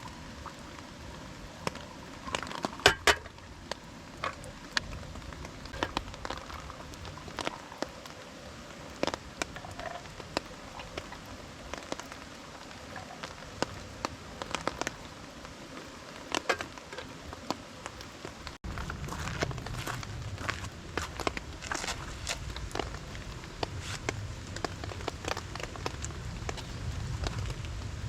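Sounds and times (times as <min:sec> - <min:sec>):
rain hissing: 0:00.0 - 0:28.0
sharp raindrops striking: 0:00.0 - 0:28.0.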